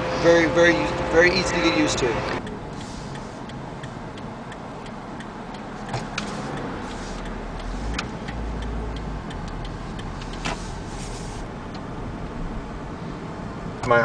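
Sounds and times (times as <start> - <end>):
car rolling low rumble: 0.0 - 14.0
turn signal ticking: 0.0 - 14.0.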